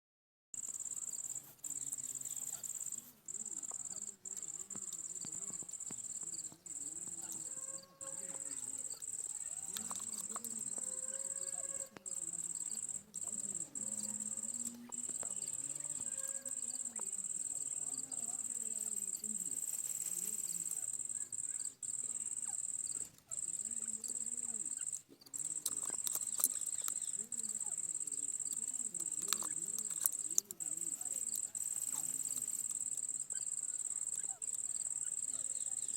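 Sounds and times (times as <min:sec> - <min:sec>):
insect trilling: 0:00.6 - 0:35.9
faint low wavering calls: 0:00.7 - 0:35.9.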